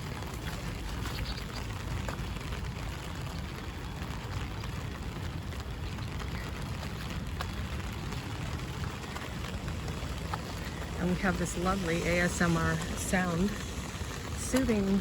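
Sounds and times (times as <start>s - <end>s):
rain pattering on an umbrella: 0.0s - 15.0s.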